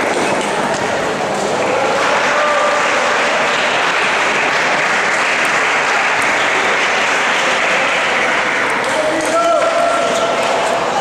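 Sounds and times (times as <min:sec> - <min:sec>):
applause in large hall: 0:01.5 - 0:11.0.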